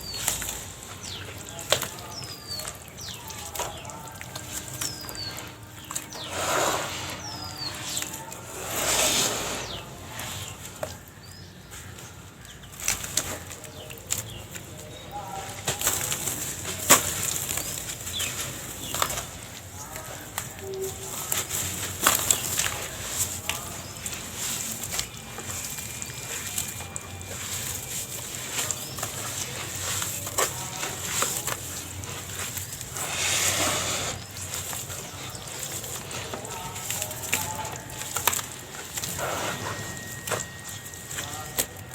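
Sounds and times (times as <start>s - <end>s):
cement lumps crumbling: 0.0s - 41.9s.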